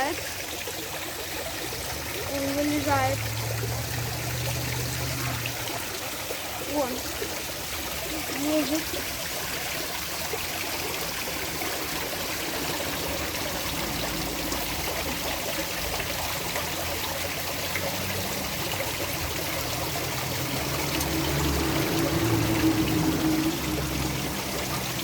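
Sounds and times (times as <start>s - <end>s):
fountain water trickling: 0.0s - 25.0s.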